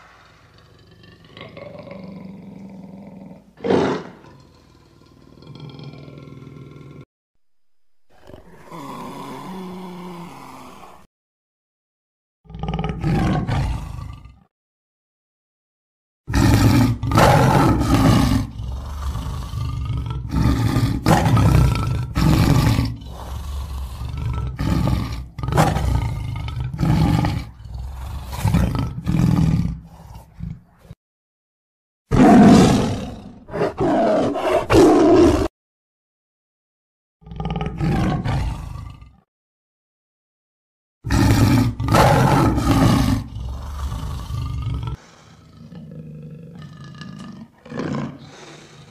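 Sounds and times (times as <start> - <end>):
lion roaring and grunting: 0.0 - 7.1, 8.1 - 11.1, 12.5 - 14.5, 16.3 - 31.0, 32.1 - 35.5, 37.2 - 39.3, 41.1 - 48.9.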